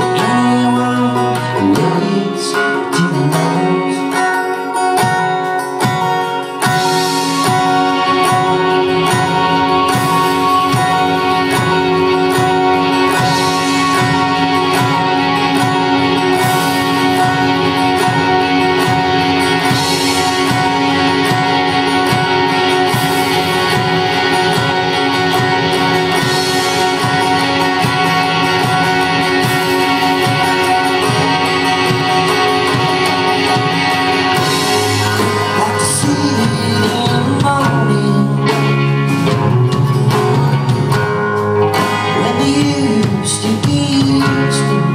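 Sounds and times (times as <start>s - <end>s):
acoustic guitar: 0.0s - 44.9s
electric guitar: 0.0s - 44.9s
steady drum beat: 5.0s - 44.9s.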